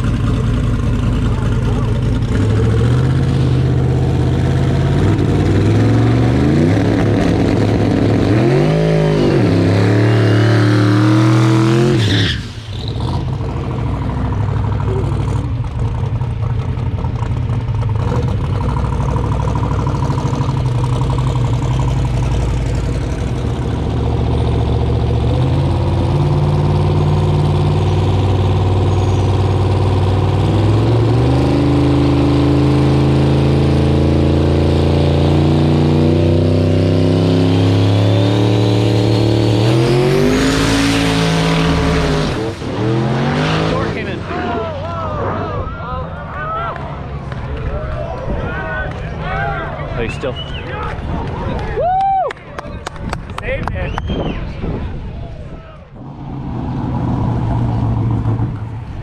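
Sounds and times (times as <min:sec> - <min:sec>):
car engine accelerating hard: 0:00.0 - 0:51.8, 0:55.9 - 0:59.0.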